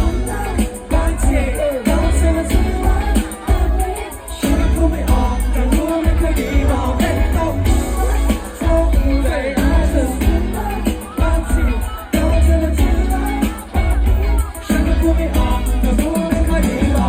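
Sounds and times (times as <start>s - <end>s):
heavy bass beat: 0.0s - 17.0s
pop song with singing: 0.0s - 17.0s.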